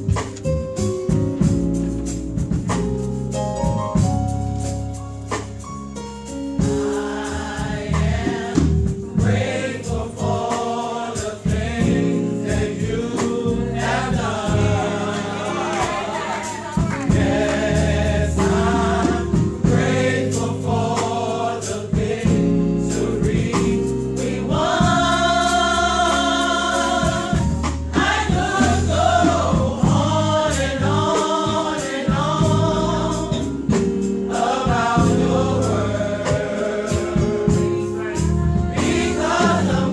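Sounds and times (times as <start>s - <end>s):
instrumental accompaniment with beat: 0.0s - 39.9s
gospel choir singing: 6.6s - 39.9s.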